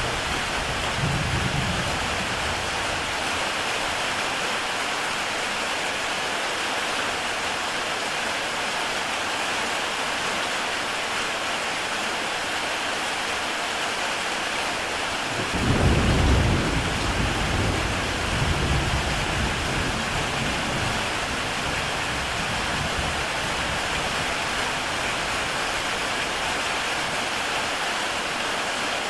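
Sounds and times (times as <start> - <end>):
heavy rain on a tile roof: 0.0 - 29.0.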